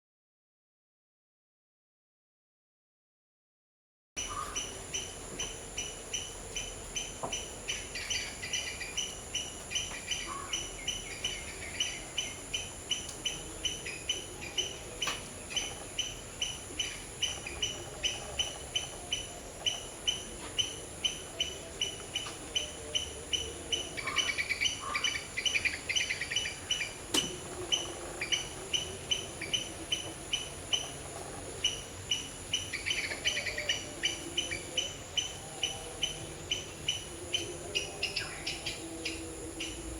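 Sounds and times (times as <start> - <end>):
high insect hiss: 4.2 - 39.9.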